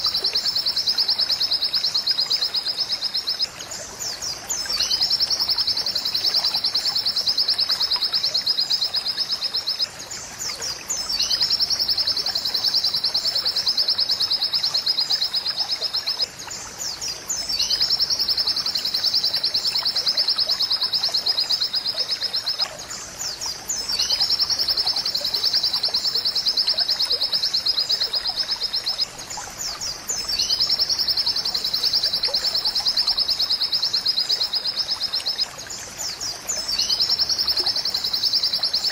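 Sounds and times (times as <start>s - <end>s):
bird trilling song: 0.0s - 9.8s, 10.6s - 16.2s, 16.8s - 22.6s, 23.2s - 35.4s, 36.0s - 38.9s.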